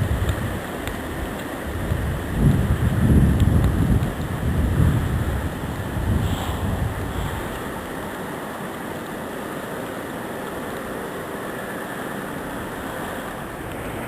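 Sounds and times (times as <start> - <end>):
wind blowing snow: 0.0 - 14.0.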